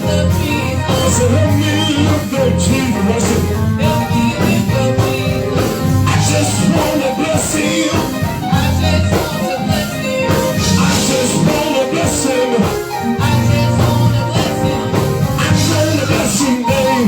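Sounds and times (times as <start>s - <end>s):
live gospel band playing: 0.0s - 17.0s
person singing: 0.0s - 17.0s.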